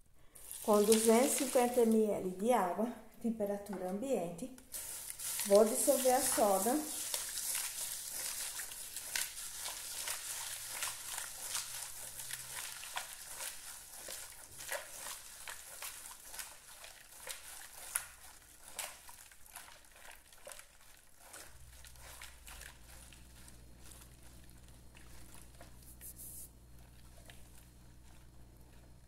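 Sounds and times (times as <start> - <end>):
spatula scraping plastic basin: 5.1 - 29.0.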